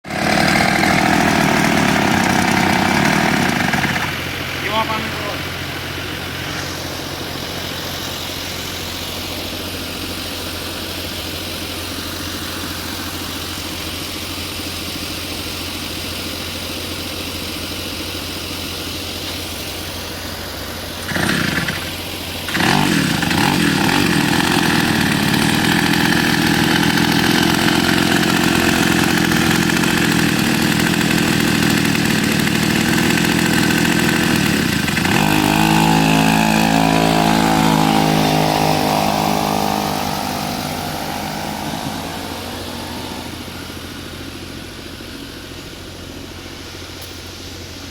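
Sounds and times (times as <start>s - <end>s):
chainsaw engine idling and revving: 0.0s - 47.9s.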